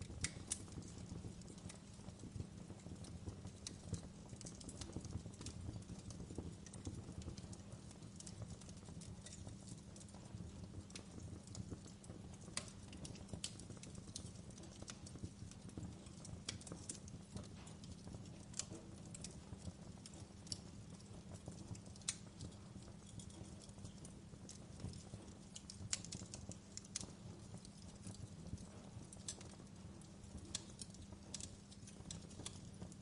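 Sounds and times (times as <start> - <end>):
fire crackling and popping: 0.0 - 33.0.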